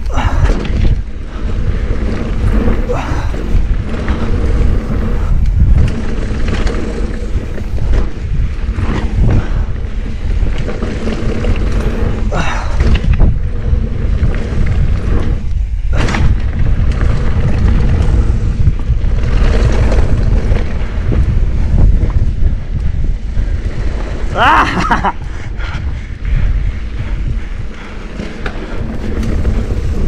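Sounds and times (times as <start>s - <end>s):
tyres rolling over dirt: 0.0s - 25.3s, 27.6s - 30.0s
bike knocks and rattles: 0.0s - 30.0s
wind buffeting microphone: 0.0s - 30.0s.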